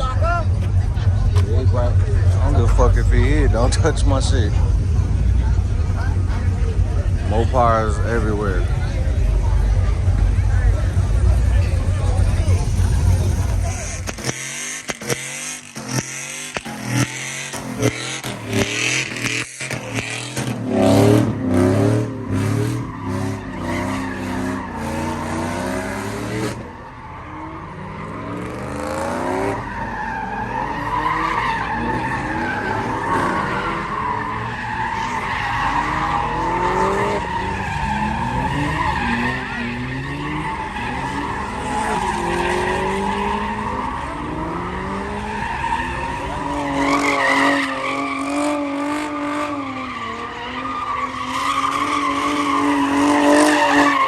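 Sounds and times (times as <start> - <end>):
car engine revving hard: 0.0 - 26.8, 27.4 - 54.0.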